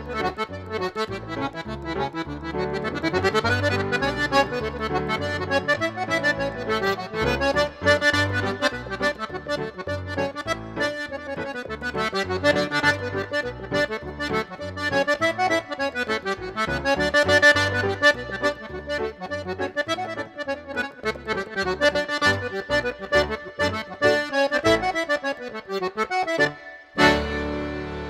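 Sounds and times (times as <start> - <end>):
piano bass notes: 0.0 - 24.9, 27.0 - 28.0
piano accordion playing a reel: 0.0 - 28.0.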